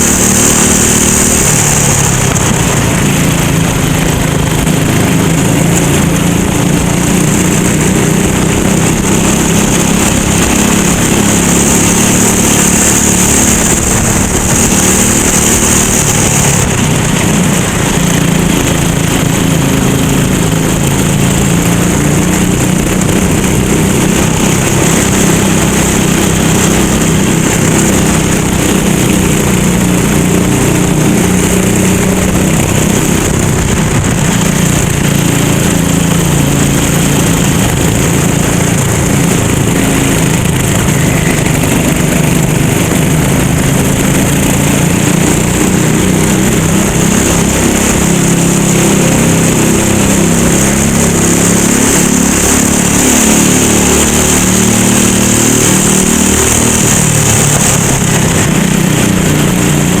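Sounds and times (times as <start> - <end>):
kart engine revving: 0.0 - 60.0.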